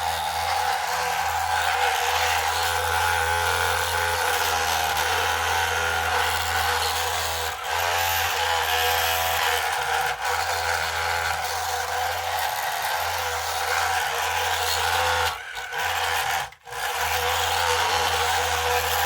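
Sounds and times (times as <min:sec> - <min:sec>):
electric motors whirring: 0:00.0 - 0:19.0.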